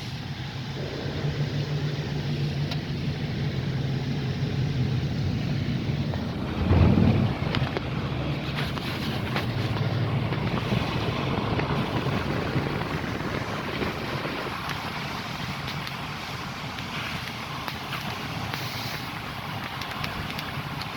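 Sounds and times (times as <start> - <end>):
low fluctuating rumble: 0.0 - 17.6
steady rushing noise: 0.0 - 20.9.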